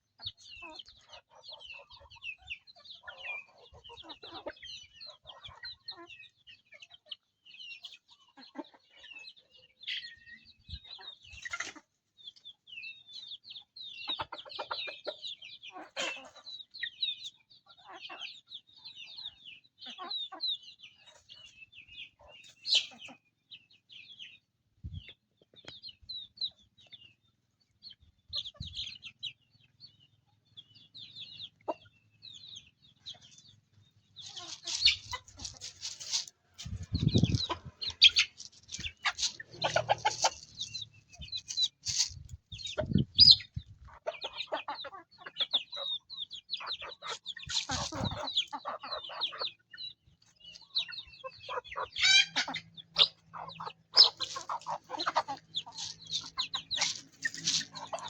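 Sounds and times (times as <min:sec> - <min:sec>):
chickens clucking: 0:00.0 - 0:58.0
high peeping calls: 0:00.1 - 0:58.0.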